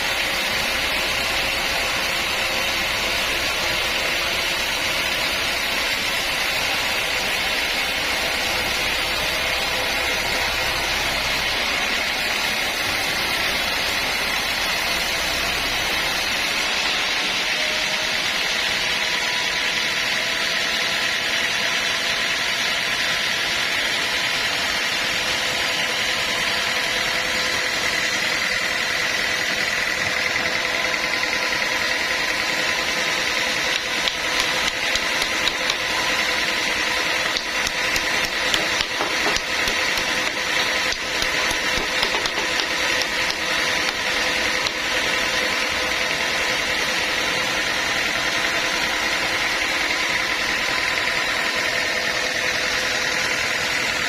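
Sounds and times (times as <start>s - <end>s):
sawmill machinery whine: 0.0s - 54.0s.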